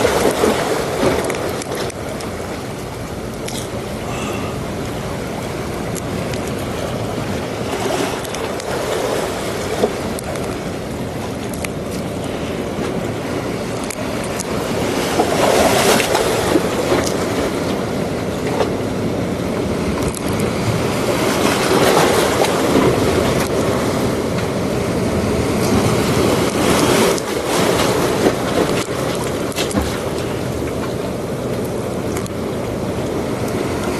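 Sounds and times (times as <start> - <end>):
sea waves breaking: 0.0 - 33.9.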